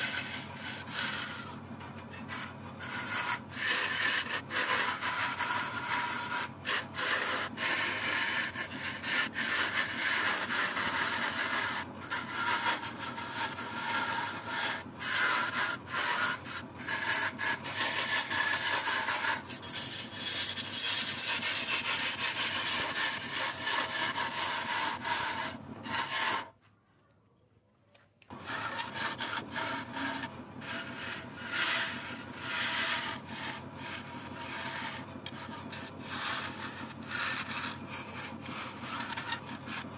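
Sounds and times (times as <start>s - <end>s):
turning tool scraping wood: 0.0s - 26.6s, 28.3s - 39.9s
wood lathe turning: 0.0s - 26.6s, 28.3s - 39.9s.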